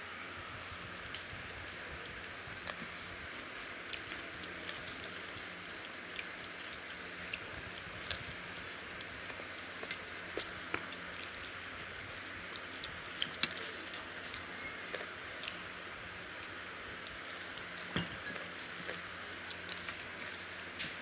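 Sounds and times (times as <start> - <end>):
fingers eating rice from steel plates: 1.1 - 21.0.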